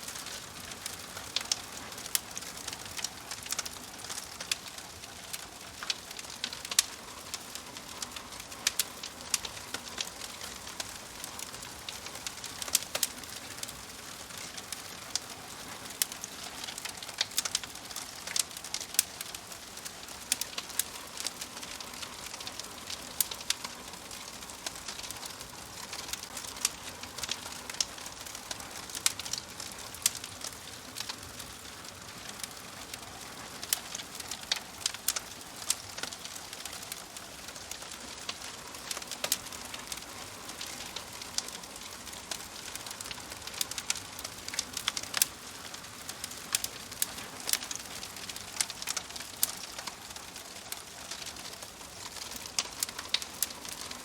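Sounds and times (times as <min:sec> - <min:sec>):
log fire crackling: 0:00.0 - 0:54.0.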